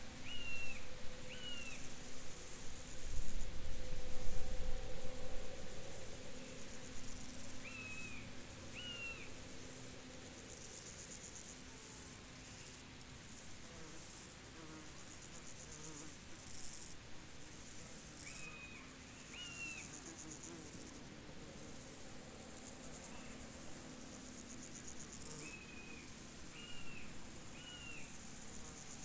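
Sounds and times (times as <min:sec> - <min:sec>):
crickets chirping: 0:00.0 - 0:13.7, 0:18.0 - 0:29.0.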